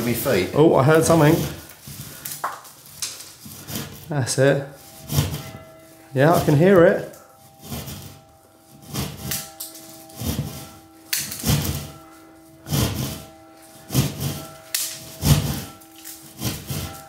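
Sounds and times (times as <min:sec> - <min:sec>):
muffled bell tolling: 0:00.0 - 0:02.2, 0:02.8 - 0:17.0.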